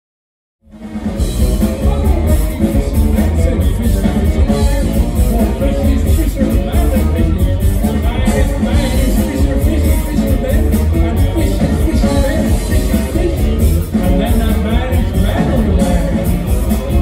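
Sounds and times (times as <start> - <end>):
live rock band playing: 0.6 - 17.0.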